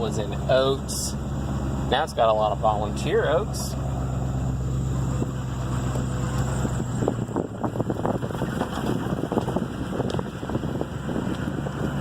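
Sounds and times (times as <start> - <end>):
truck engine hum: 0.0 - 12.0
truck clattering over rough ground: 1.2 - 12.0.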